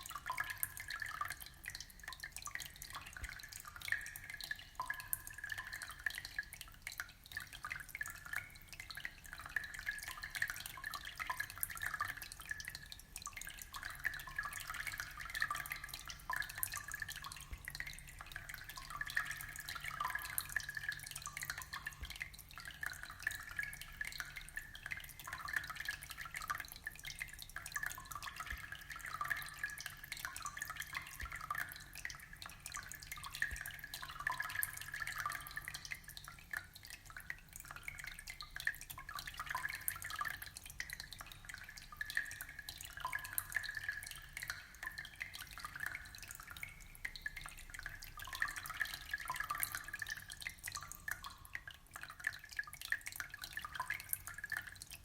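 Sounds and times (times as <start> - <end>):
aquarium water trickling and bubbling: 0.0 - 55.0.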